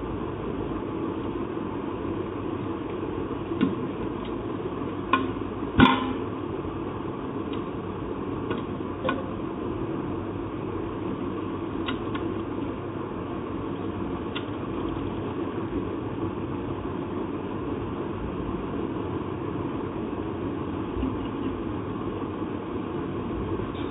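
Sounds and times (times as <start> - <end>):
steady mechanical hum: 0.0 - 23.9.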